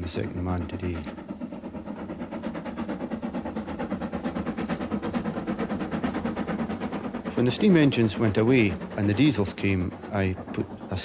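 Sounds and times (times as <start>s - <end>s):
locomotive running with rapid beat: 0.0s - 11.0s.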